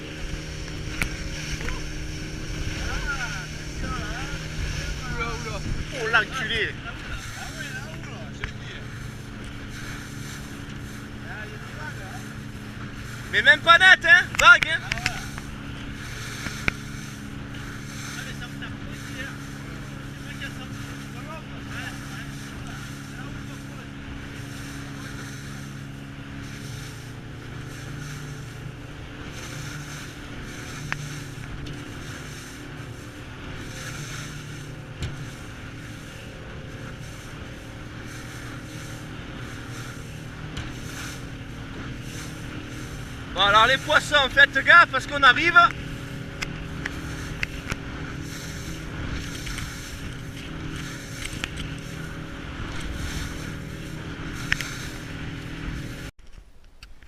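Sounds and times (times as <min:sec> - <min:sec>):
wind buffeting microphone: 0:00.0 - 0:56.1
water rushing past hull: 0:00.0 - 0:56.2
boat motor running: 0:00.0 - 0:57.0.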